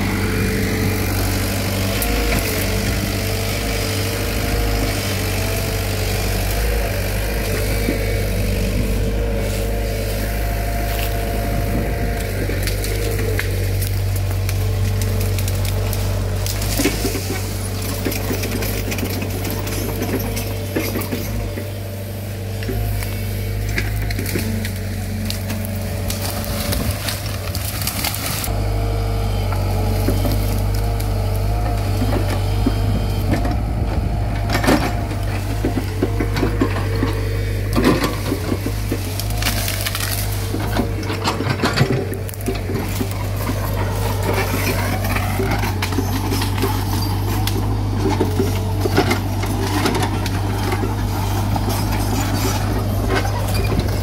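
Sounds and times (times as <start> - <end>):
excavator diesel engine running: 0.0 - 54.0
wood cracking and snapping: 0.1 - 21.7, 22.4 - 28.8, 29.5 - 54.0.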